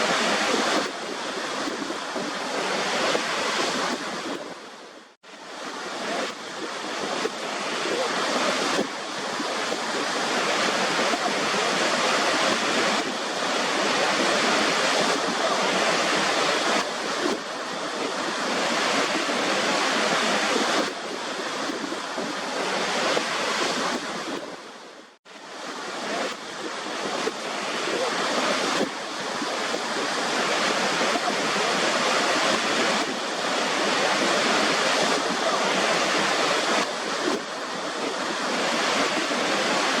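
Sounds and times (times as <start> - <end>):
waterfall rushing: 0.0 - 24.8, 25.4 - 40.0.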